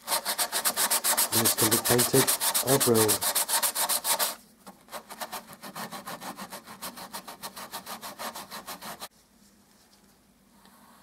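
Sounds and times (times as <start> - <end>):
sanding sponge rubbing on wood: 0.0 - 9.1.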